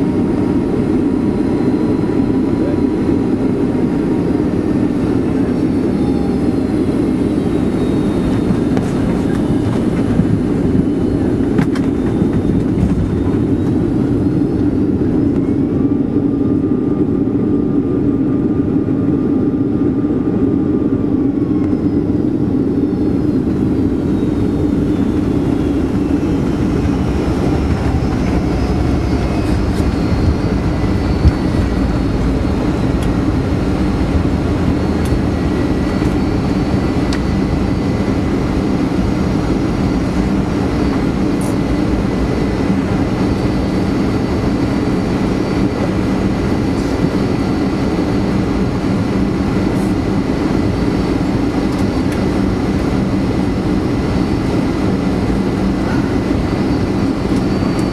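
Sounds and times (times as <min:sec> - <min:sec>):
aircraft cabin engine rumble: 0:00.0 - 0:57.9
faint falling whine: 0:00.0 - 0:57.9.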